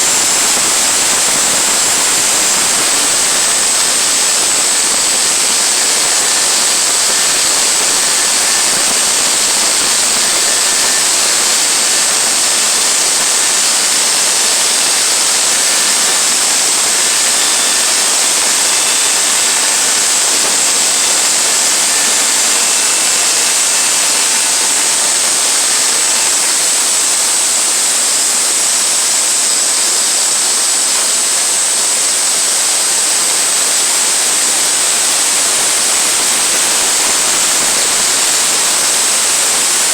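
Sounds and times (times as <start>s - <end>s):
bandsaw cutting log: 0.0s - 39.9s.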